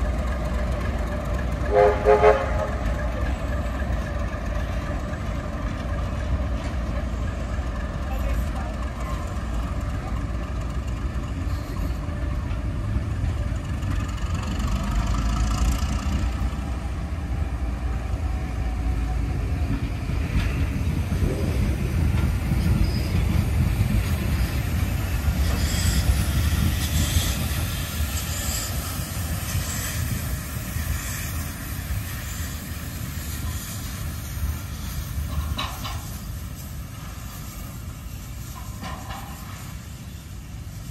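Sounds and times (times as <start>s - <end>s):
regular rhythmic beat of train: 0.0s - 40.9s
steam train rumbling past: 0.0s - 40.9s.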